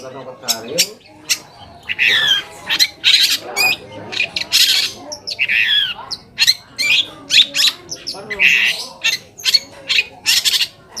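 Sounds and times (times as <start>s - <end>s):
shrike singing: 0.0s - 11.0s.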